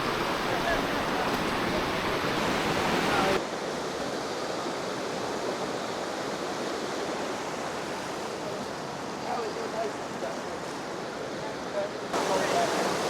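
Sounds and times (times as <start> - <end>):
rushing water in river: 0.0 - 13.0.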